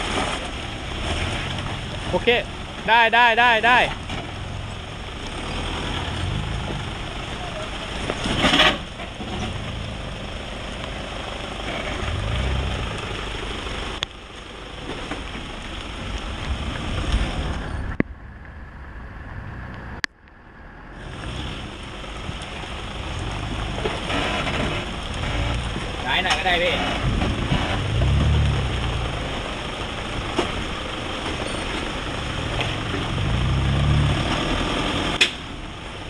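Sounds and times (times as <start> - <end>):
engine running at low revs: 3.9 - 35.9.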